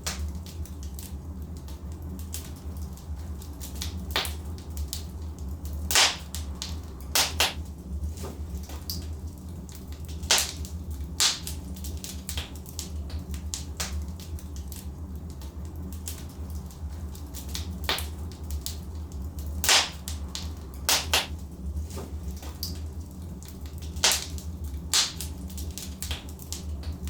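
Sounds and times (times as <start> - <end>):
logs crackling and popping: 0.0 - 27.0
steady low rumble: 0.0 - 27.0.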